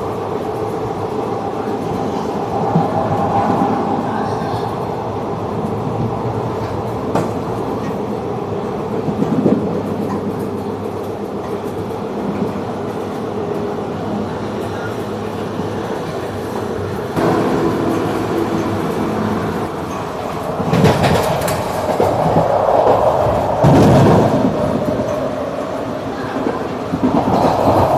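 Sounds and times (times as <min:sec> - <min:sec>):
train rumble with wheel clatter: 0:00.0 - 0:27.9.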